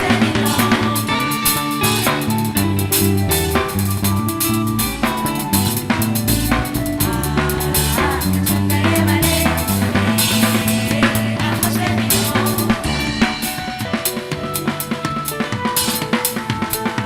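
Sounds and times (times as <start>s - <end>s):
drum kit kick and snare hits: 0.0s - 17.0s
live band playing: 0.0s - 17.0s.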